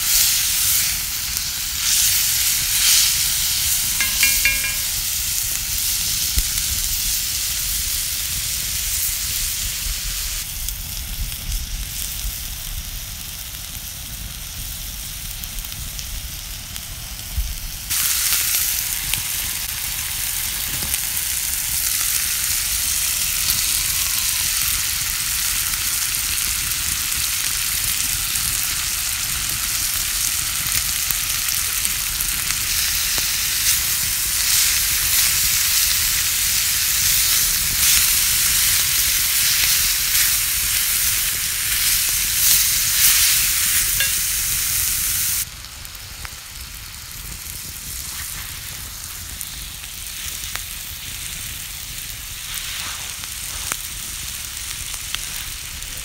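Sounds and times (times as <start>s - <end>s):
crackles and spatters: 0.0s - 56.0s
food sizzling in a pan: 0.0s - 56.0s.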